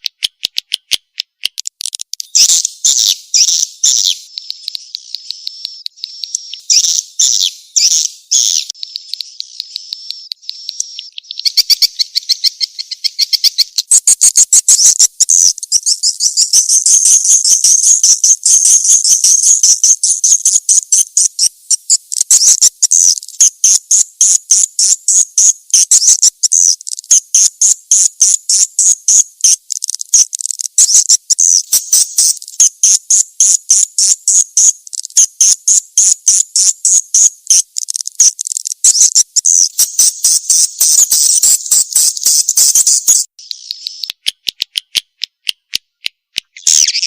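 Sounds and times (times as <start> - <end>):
rapid high-pitched bird chirps: 0.0 - 47.0.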